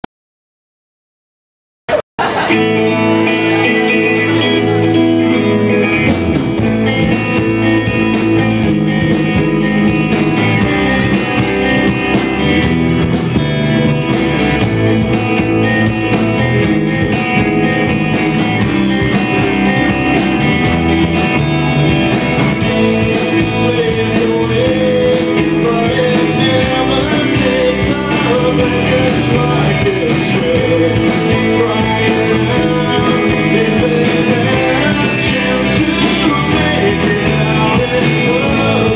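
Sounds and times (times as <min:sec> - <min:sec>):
electric guitars: 0:02.2 - 0:38.9
live rock band playing: 0:02.2 - 0:38.9.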